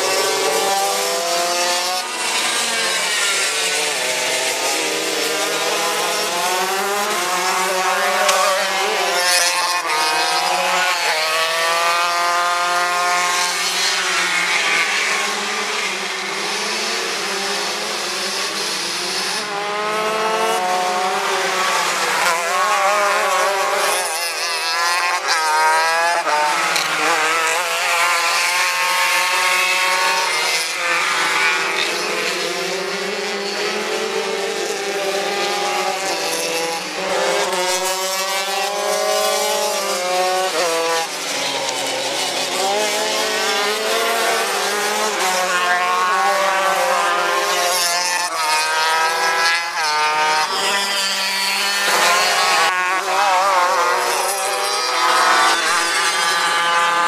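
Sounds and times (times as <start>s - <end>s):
racing kart engines: 0.0s - 57.0s.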